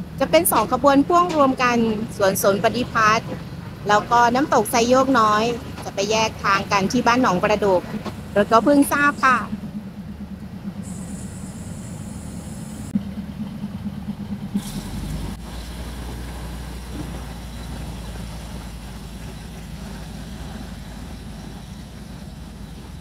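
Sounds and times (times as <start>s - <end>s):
deep engine rumble: 0.0s - 23.0s
diesel train engine idling: 0.0s - 23.0s.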